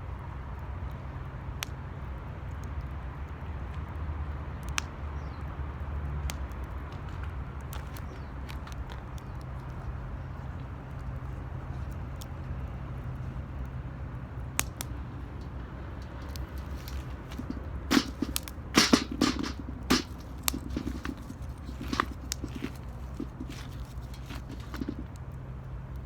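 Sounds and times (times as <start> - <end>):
fire rumbling: 0.5 - 26.0
fire crackling and popping: 0.7 - 26.0.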